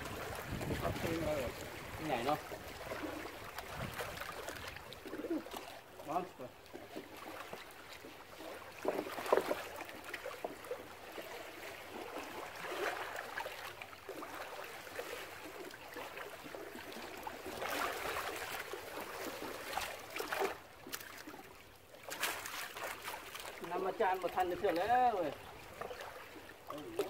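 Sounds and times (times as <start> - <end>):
waves splashing against concrete wall: 0.0 - 27.0.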